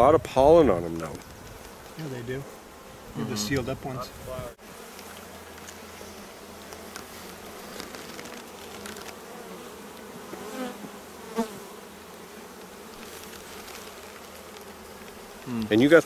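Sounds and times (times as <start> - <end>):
honeybees buzzing: 0.3 - 16.0.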